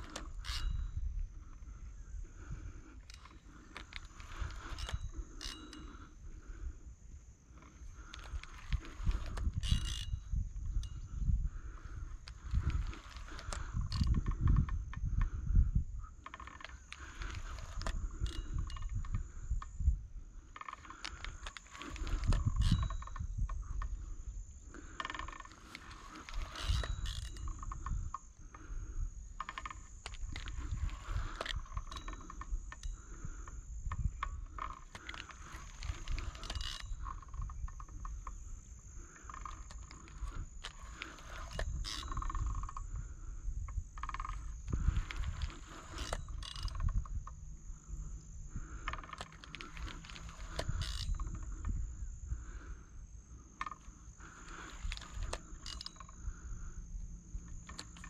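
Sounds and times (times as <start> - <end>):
frogs croaking: 0.0 - 58.0
high-pitched insect drone: 0.0 - 58.0.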